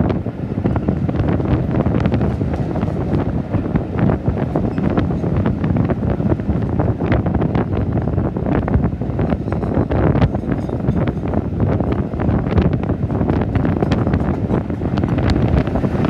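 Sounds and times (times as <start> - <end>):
train rumbling along track: 0.0 - 16.0
wind buffeting microphone: 0.0 - 16.0.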